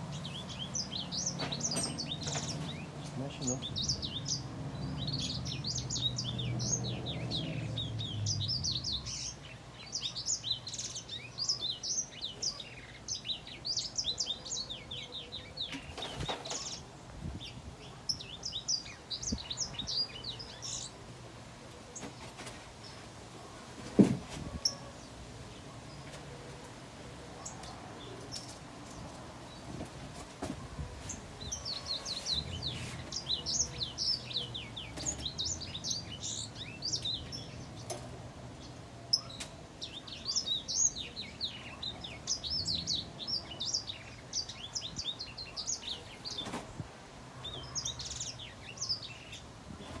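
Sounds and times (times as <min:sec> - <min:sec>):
songbird chirping: 0:00.0 - 0:50.0.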